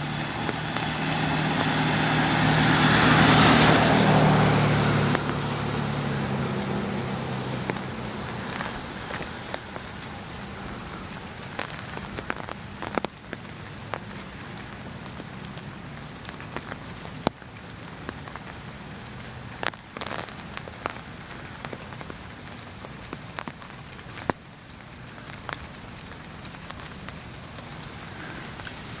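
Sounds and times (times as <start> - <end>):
vehicle hum: 0.0 - 22.8, 26.0 - 29.0
steady rain falling: 0.0 - 29.0.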